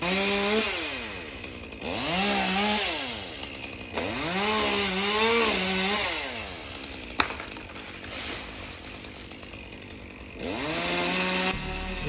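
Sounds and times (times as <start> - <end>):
chainsaw cutting a limb: 0.0 - 12.0.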